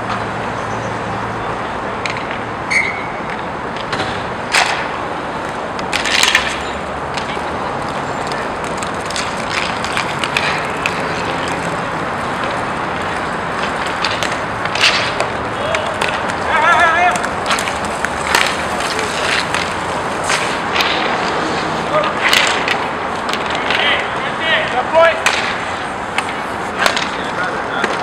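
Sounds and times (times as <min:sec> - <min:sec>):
hockey sticks and puck clacking: 0:00.0 - 0:00.3, 0:01.9 - 0:28.0
skate wheels rolling on rink: 0:00.0 - 0:28.0.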